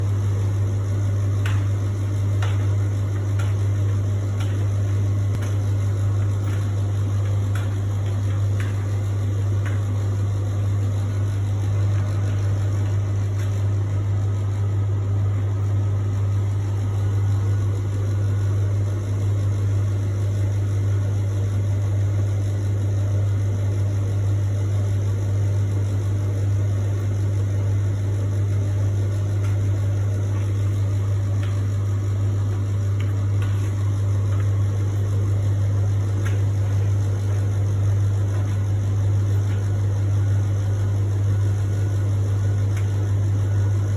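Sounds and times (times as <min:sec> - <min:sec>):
appliance humming: 0:00.0 - 0:43.9.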